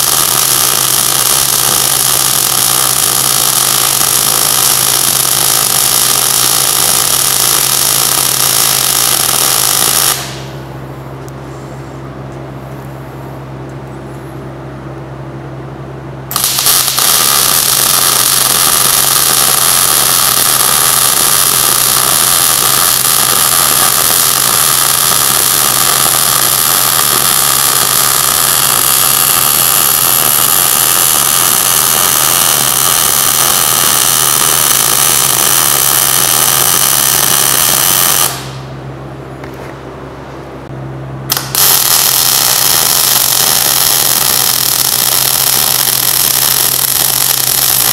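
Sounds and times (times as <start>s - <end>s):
welding arc: 0.0s - 10.7s, 16.3s - 38.8s, 41.3s - 47.9s
steady low hum: 0.0s - 47.9s.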